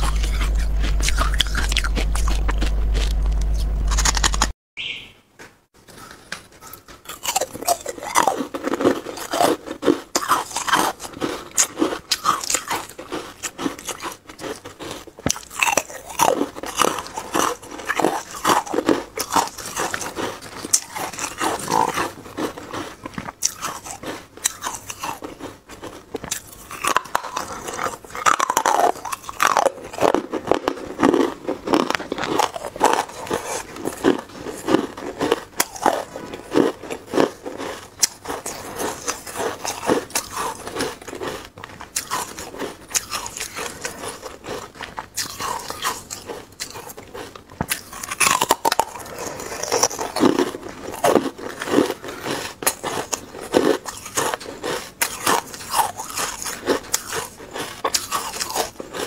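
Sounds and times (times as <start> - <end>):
ice cubes crunching in mouth: 0.0 - 4.5, 7.0 - 59.0.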